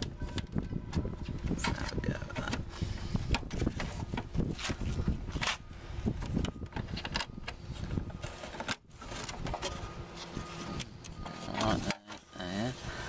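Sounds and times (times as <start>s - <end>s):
plastic scraping and clicking: 0.0s - 5.6s, 6.2s - 12.3s.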